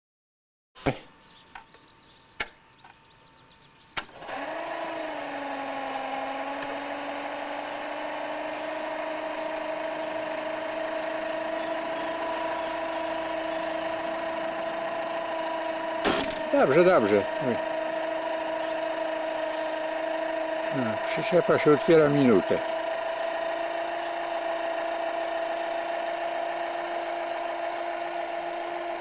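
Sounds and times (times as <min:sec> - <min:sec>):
electric motor whining: 0:01.4 - 0:29.0.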